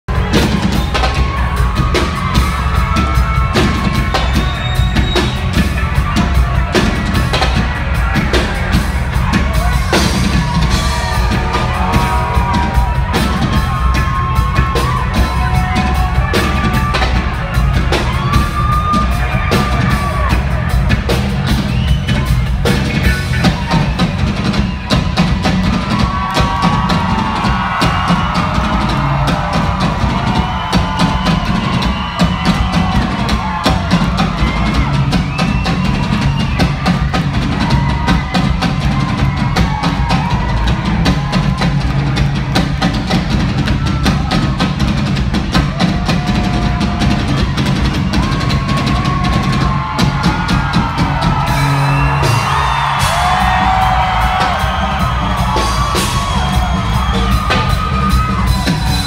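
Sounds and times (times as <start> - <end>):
crowd whooping and cheering: 0.1 - 59.0
drum kit and percussion jam: 0.1 - 59.0.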